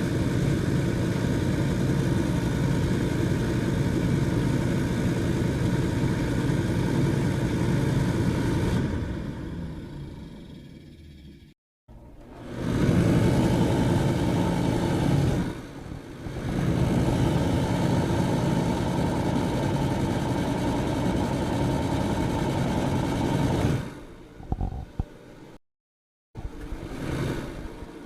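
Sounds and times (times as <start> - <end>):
electric fan whirring: 0.0 - 25.6.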